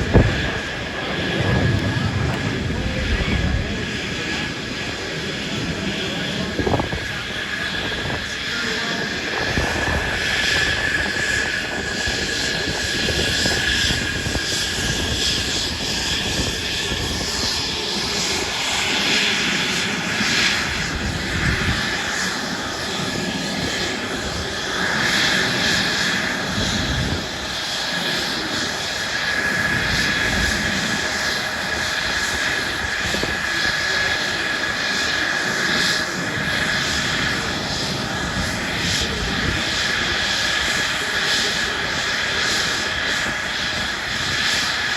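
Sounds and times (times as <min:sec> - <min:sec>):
airplane flying overhead: 0:00.0 - 0:44.9.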